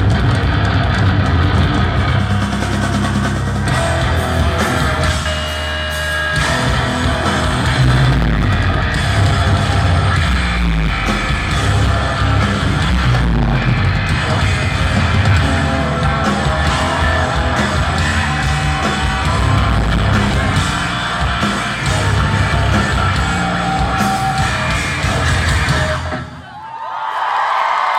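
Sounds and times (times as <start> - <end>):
rock band playing live: 0.0 - 26.5.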